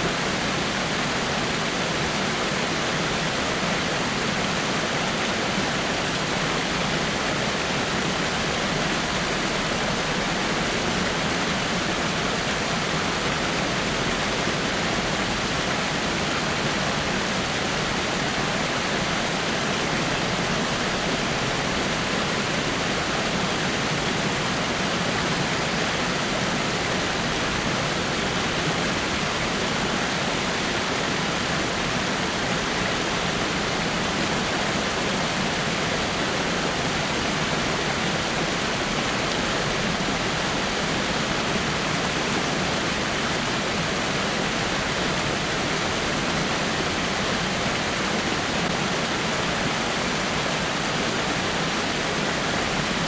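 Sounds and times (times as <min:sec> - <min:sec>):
water rushing over rocks: 0:00.0 - 0:53.0.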